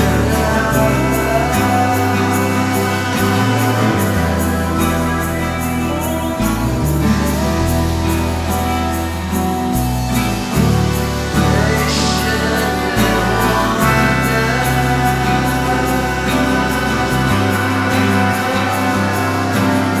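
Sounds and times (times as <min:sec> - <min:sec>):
bass line: 0:00.0 - 0:20.0
person singing: 0:00.0 - 0:20.0.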